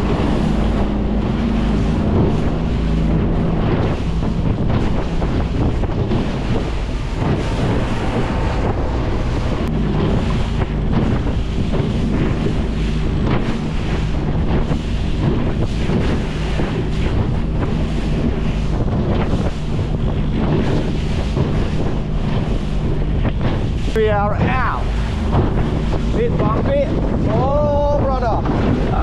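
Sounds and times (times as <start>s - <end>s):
outboard motor humming: 0.0s - 29.0s
water splashing along hull: 0.0s - 29.0s
wind noise on microphone: 0.0s - 29.0s.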